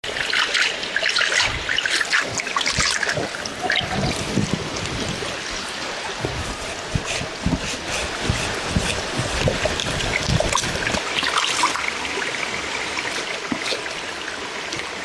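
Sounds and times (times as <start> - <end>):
juice trickling and splashing: 0.0 - 15.0.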